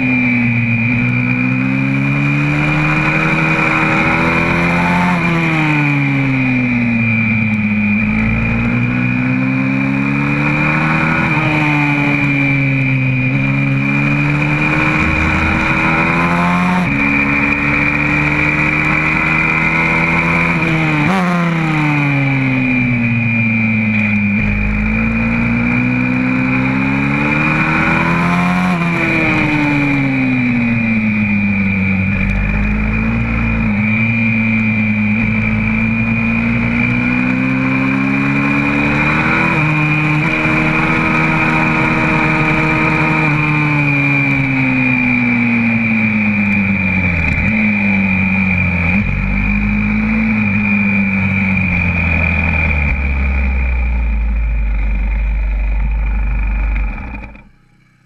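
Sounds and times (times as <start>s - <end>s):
motorbike engine revving: 0.0s - 57.8s.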